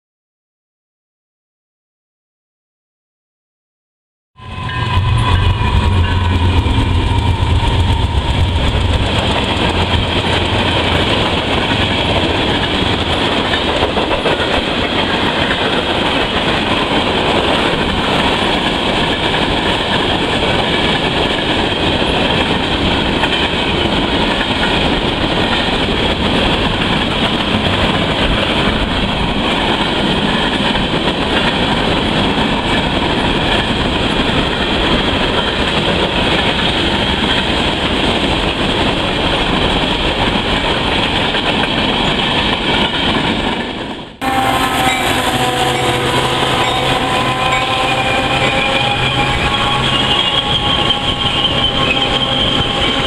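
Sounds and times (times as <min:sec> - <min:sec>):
diesel locomotives rumbling: 0:04.4 - 0:53.0
freight cars clattering on rails: 0:05.0 - 0:53.0.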